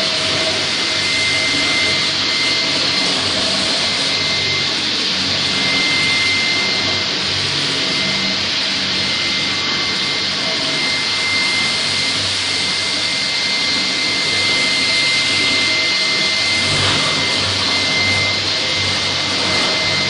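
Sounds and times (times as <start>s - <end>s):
vacuum rushing with high whine: 0.0s - 20.0s.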